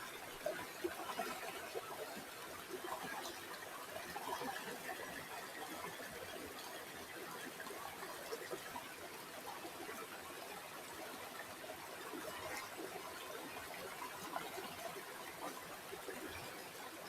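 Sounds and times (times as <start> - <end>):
river water trickling: 0.0 - 17.0.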